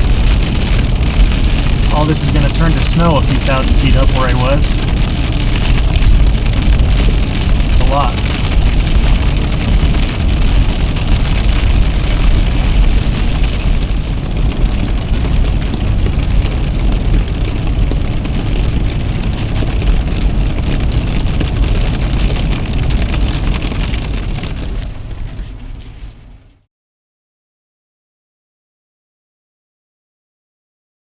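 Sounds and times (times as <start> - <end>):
rain hiss: 0.0 - 26.5
car road rumble: 0.0 - 26.7.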